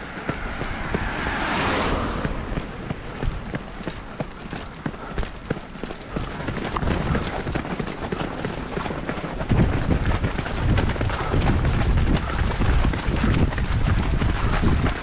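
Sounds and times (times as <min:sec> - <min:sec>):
footfalls on wet road: 0:00.0 - 0:15.0
wind buffeting microphone: 0:00.0 - 0:15.0.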